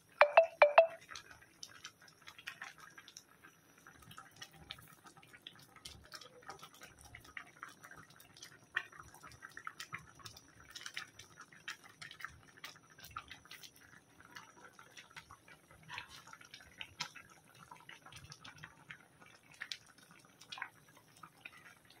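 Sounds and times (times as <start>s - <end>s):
curry bubbling and popping: 1.0s - 22.0s.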